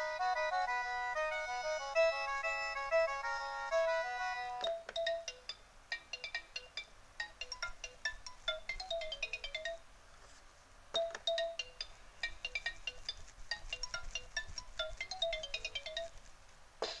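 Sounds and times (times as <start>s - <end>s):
toy electronic beeping melody: 0.0s - 9.8s, 11.0s - 16.1s.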